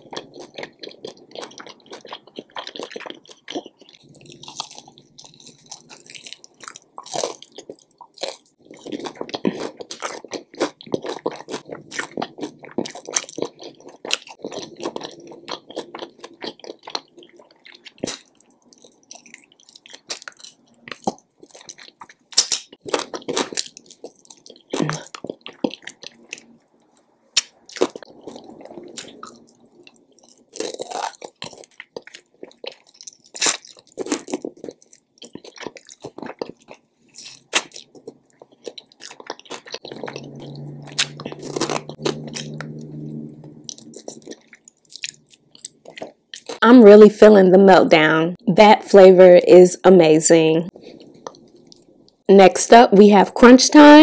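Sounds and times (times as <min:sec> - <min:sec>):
chewing and biting food: 0:00.0 - 0:46.6, 0:50.7 - 0:51.9.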